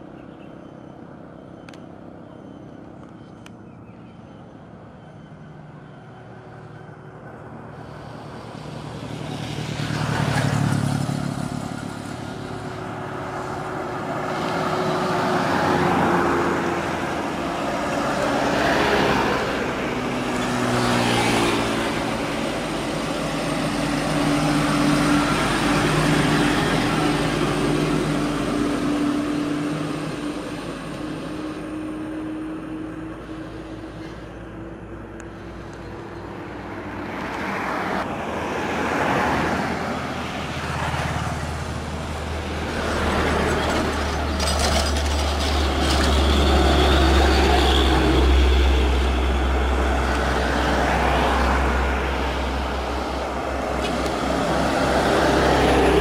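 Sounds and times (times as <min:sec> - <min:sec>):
cars passing: 0:00.0 - 0:56.0
diesel truck engine climbing: 0:00.0 - 0:56.0
motorcycles passing: 0:05.6 - 0:56.0.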